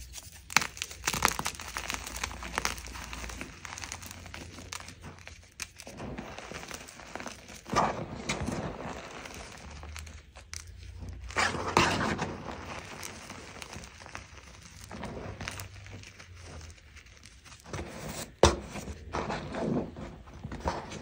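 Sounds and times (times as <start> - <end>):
hands crunching chalk: 0.0 - 21.0.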